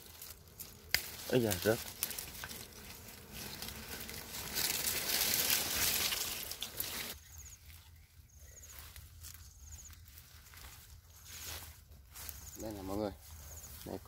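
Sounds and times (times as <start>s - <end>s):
twigs and leaves rustling: 0.0s - 14.0s.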